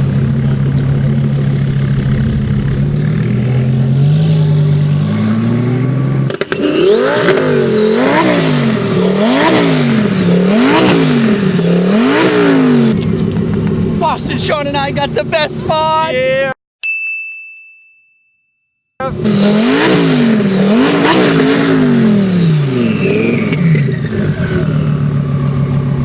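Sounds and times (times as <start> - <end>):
engine revving: 0.0 - 15.6, 19.0 - 26.0
car engine running: 0.0 - 16.4, 19.0 - 26.0.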